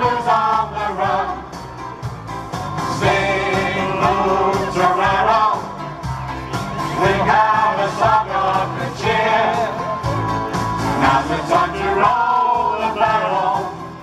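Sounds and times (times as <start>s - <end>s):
men and women singing in harmony: 0.0s - 1.8s, 2.8s - 6.0s, 6.8s - 10.2s, 10.8s - 14.0s
accompaniment with bass beat: 0.0s - 14.0s.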